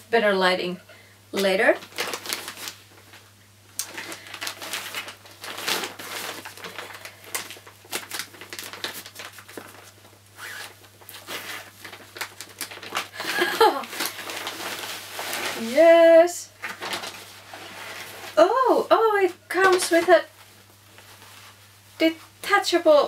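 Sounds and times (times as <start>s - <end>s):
paper and plastic crinkling: 1.4s - 22.6s.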